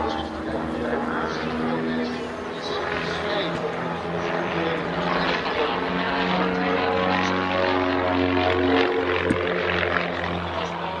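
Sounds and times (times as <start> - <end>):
propeller planes droning overhead: 0.0 - 11.0.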